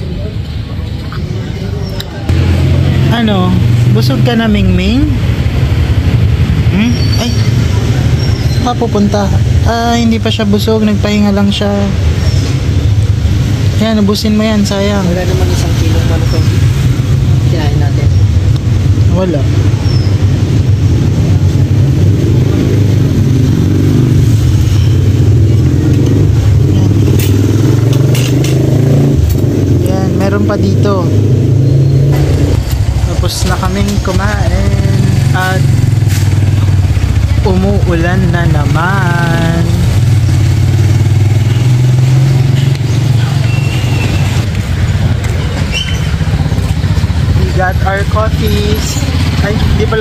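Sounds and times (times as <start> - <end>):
vehicle engine droning: 0.0 - 50.0.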